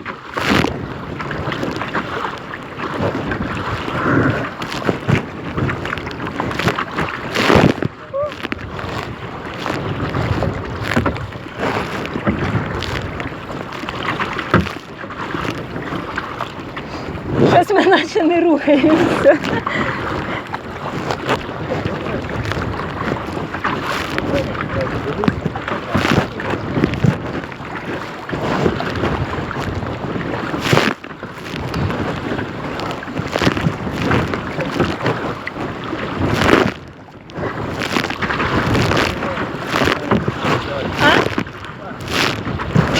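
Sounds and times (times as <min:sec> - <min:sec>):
kayak paddles splashing: 0:00.0 - 0:42.9
wind buffeting microphone: 0:00.0 - 0:42.9.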